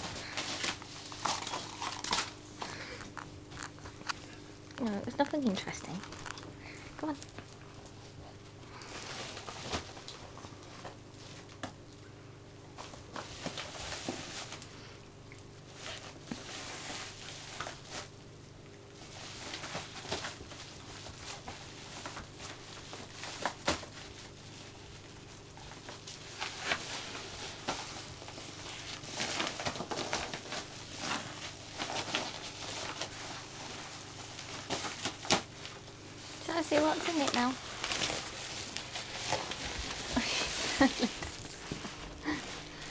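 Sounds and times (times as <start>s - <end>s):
plastic bag crinkling and rustling: 0.0s - 7.8s, 8.8s - 11.6s, 15.6s - 18.2s, 19.0s - 42.9s.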